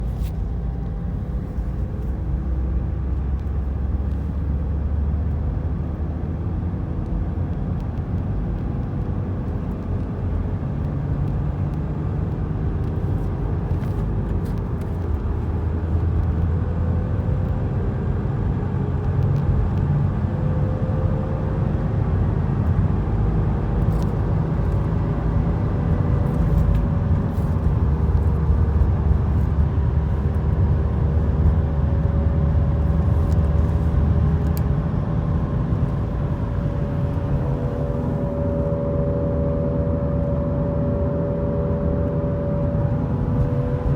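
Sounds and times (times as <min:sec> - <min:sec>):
low road rumble: 0:00.0 - 0:43.9.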